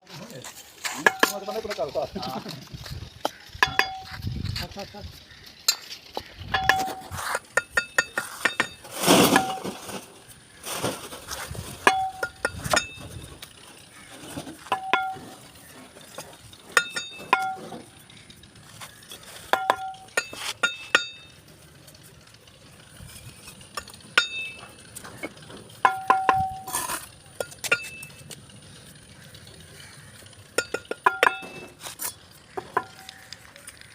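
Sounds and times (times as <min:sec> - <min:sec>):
hard objects clinking: 0:00.4 - 0:33.9.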